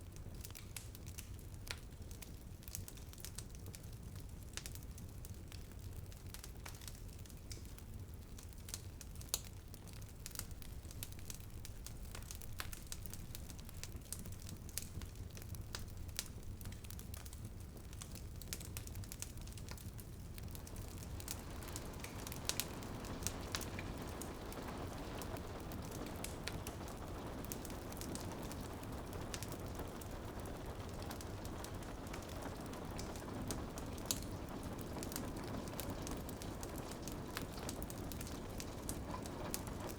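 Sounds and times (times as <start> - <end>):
rain pattering on a window: 0.0 - 39.9
wood fire crackling and popping: 0.0 - 39.9.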